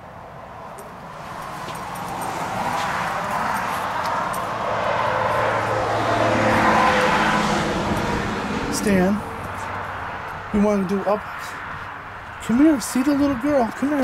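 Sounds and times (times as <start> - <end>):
passing motor vehicle: 0.0 - 14.0.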